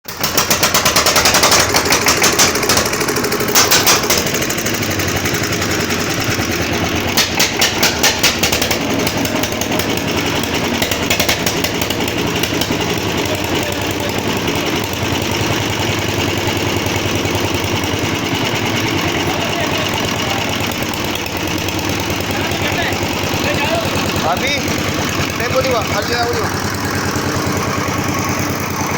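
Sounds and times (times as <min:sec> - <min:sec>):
engine driving plunger pump: 0:00.0 - 0:28.9.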